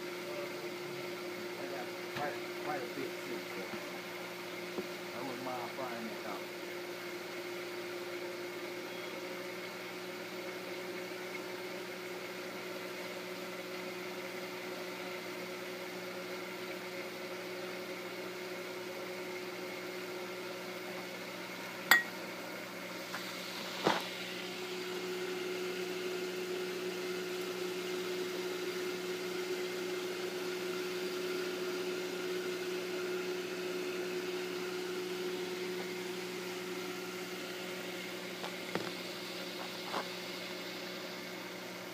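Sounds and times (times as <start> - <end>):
range hood fan humming: 0.0 - 41.9.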